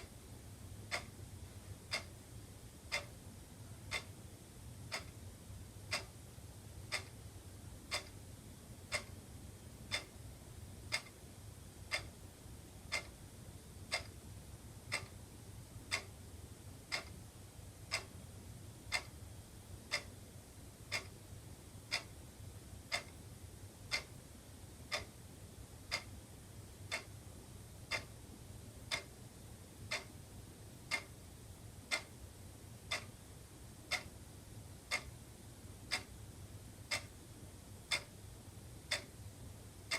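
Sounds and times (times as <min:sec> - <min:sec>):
wall clock ticking: 0:00.0 - 0:05.2, 0:05.8 - 0:12.2, 0:12.8 - 0:13.2, 0:13.8 - 0:16.2, 0:16.8 - 0:25.2, 0:25.8 - 0:29.2, 0:29.8 - 0:35.2, 0:35.8 - 0:39.9
faint low hum: 0:00.0 - 0:39.9.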